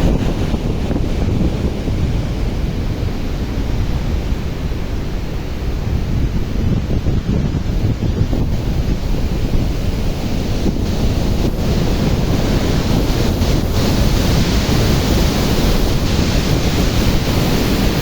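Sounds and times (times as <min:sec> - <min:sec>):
floodwater rushing: 0:00.0 - 0:18.0
wind buffeting microphone: 0:00.0 - 0:18.0.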